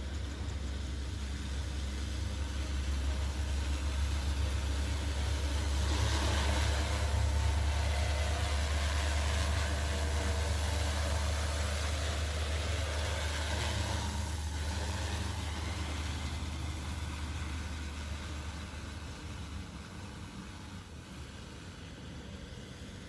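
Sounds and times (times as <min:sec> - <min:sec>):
drone rotors humming: 0:00.0 - 0:23.0
rushing air hiss: 0:00.1 - 0:23.0.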